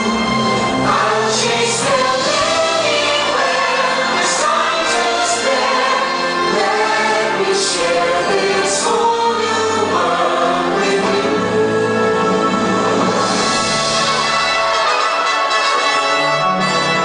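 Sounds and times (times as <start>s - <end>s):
orchestral music with choir: 0.0s - 17.0s.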